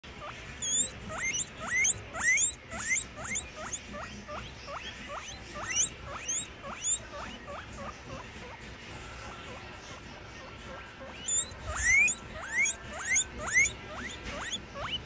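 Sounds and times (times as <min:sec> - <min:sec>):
guinea pigs wheeking: 0:00.0 - 0:15.0.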